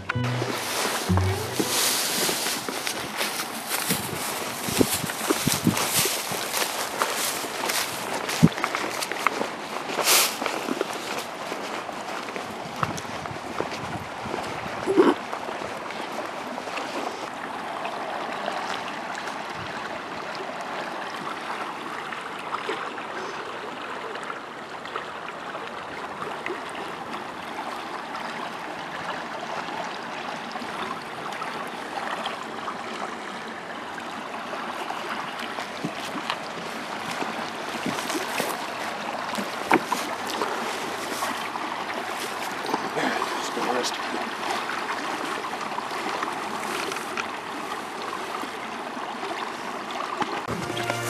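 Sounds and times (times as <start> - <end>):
fast-flowing river rushing: 0.0 - 51.0.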